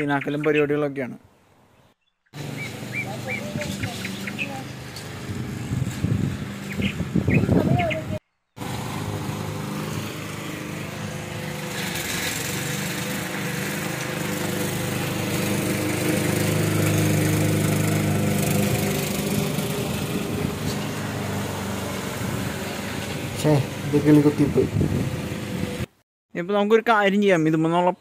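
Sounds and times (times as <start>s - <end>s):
lawn mower engine cutting grass: 2.4s - 7.8s, 8.6s - 25.9s.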